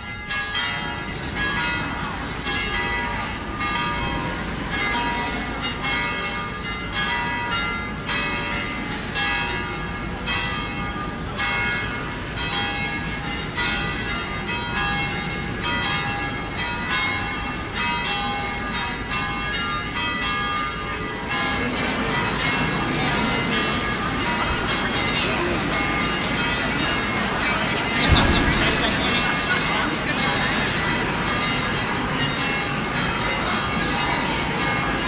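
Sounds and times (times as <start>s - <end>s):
church bells pealing: 0.0s - 35.0s.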